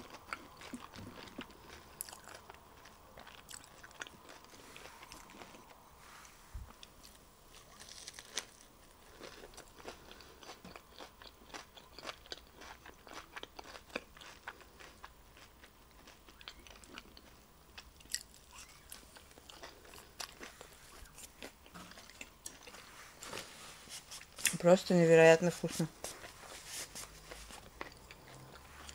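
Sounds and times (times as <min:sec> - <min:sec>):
chewing crisp lettuce: 0:00.0 - 0:05.8, 0:06.7 - 0:28.9.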